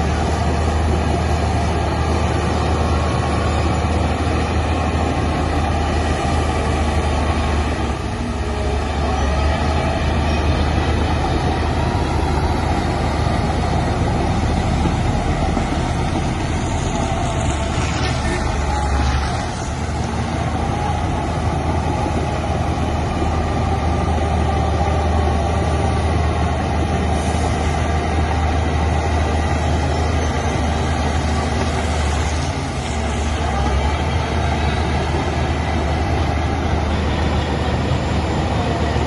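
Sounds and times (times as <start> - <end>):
heavy diesel machinery drone: 0.0 - 39.0.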